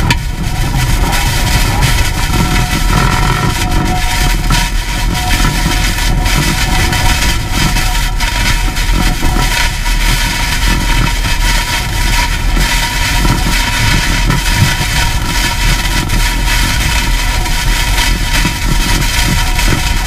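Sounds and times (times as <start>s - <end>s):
strong wind buffeting microphone: 0.0s - 20.0s
wind-driven rain: 0.0s - 20.0s.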